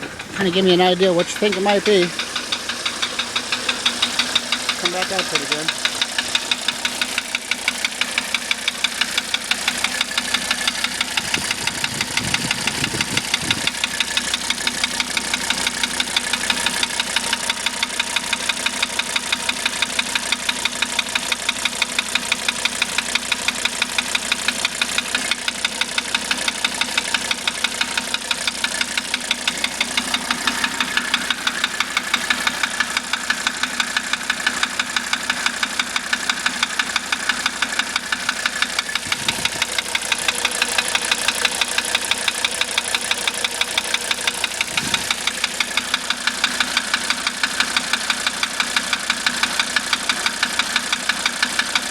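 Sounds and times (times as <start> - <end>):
diesel engine idling: 0.0 - 51.9
sharp engine knock: 1.4 - 51.8.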